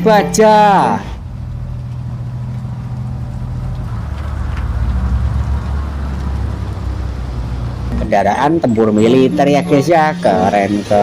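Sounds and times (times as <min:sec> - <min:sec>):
tank engine rumbling: 0:00.0 - 0:11.0.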